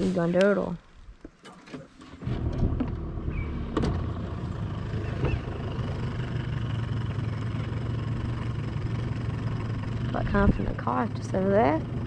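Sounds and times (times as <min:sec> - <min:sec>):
outboard motor idling: 0:00.3 - 0:12.0.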